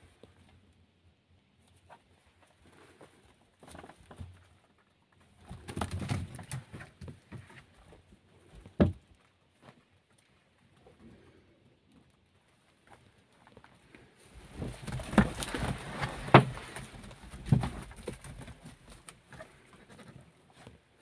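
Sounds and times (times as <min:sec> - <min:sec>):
soft hoof steps: 0:00.0 - 0:21.0.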